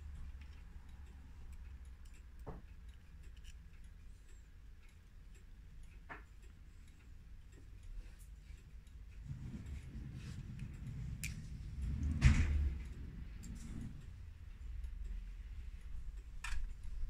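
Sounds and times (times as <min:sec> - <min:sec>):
clock movement clicks and ticks: 0:00.0 - 0:17.0
low steady hum: 0:00.0 - 0:17.0.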